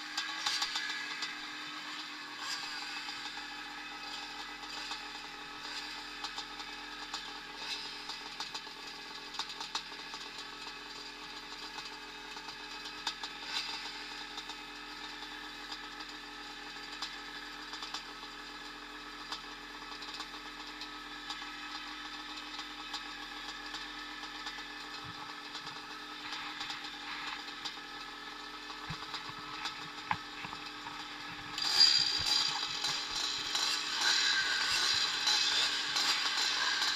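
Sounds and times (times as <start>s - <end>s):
motorcycle engines running: 0.0s - 36.9s.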